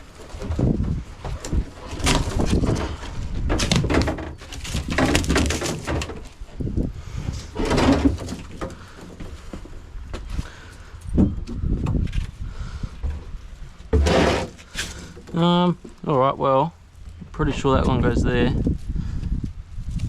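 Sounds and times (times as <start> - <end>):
scraping and crackling of piping: 0.0 - 16.1.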